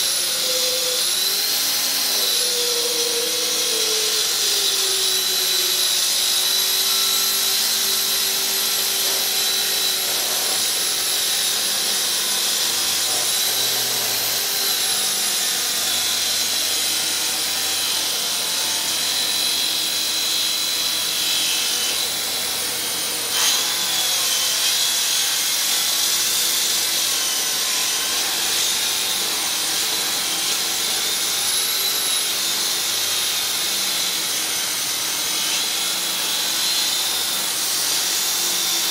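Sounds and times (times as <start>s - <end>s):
track saw cutting wood: 0.0s - 38.9s.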